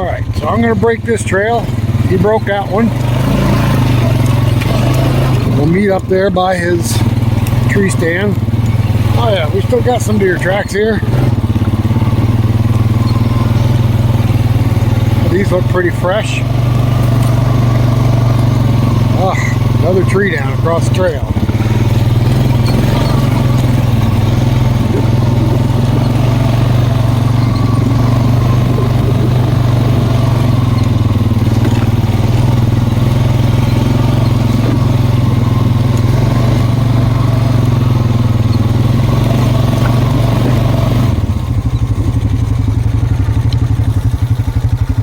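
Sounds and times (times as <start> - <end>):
atv engine running under throttle: 0.0 - 45.0.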